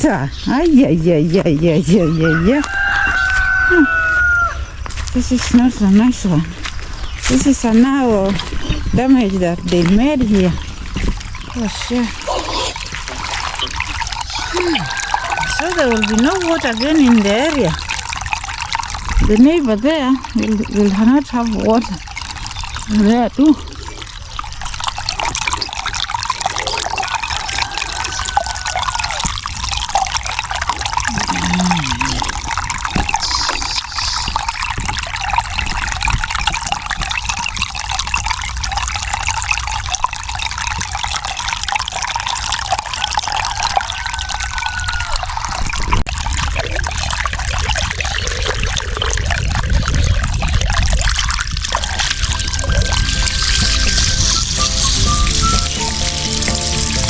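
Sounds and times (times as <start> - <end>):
water rushing from broken pipe: 0.0 - 57.0.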